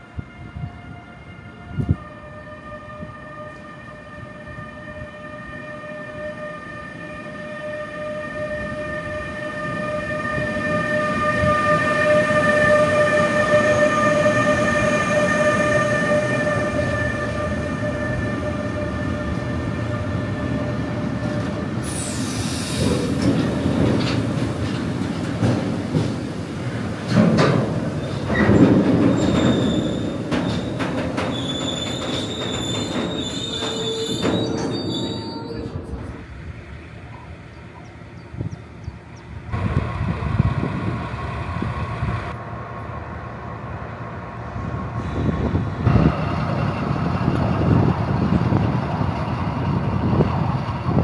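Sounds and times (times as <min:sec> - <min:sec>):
locomotive whine: 0:00.0 - 0:51.0
rolling train wheels: 0:02.7 - 0:51.0.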